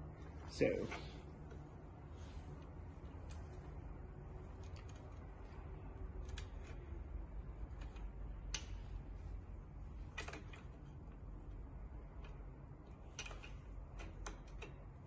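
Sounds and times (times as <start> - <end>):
low steady background hum: 0.0 - 15.0
allen key clicking and scraping: 2.6 - 15.0.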